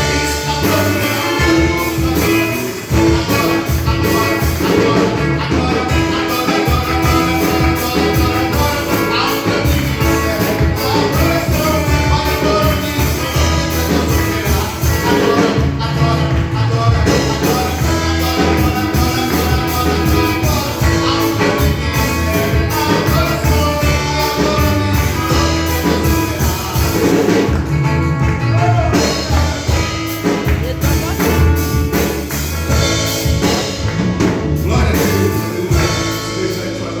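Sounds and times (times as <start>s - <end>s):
drums: 0.0s - 37.0s
guitar: 0.0s - 37.0s
person singing: 0.0s - 37.0s.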